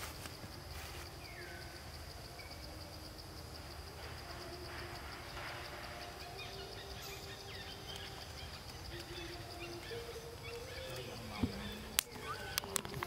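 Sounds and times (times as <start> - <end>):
steady high-pitched buzz: 0.0 - 13.0
faint chirps: 0.1 - 13.0.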